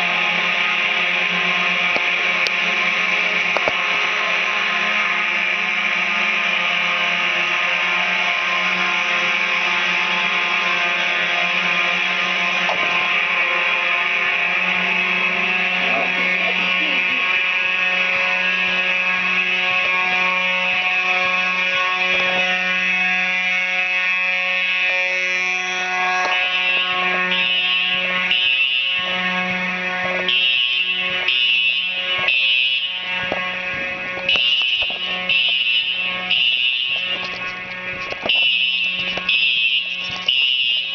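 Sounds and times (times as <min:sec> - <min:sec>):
fire alarm buzzing: 0:00.0 - 0:40.9
pulsing alarm signal: 0:00.0 - 0:40.9.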